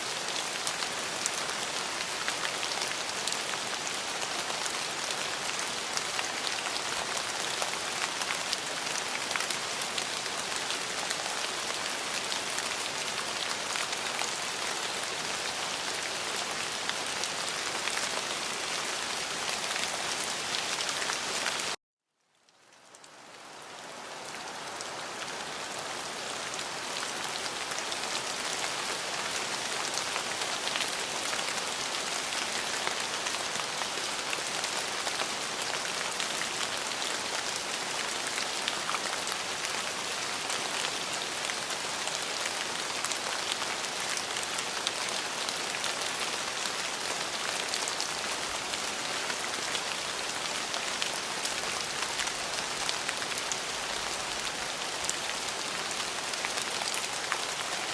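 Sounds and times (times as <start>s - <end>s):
rain patter: 0.0s - 57.9s.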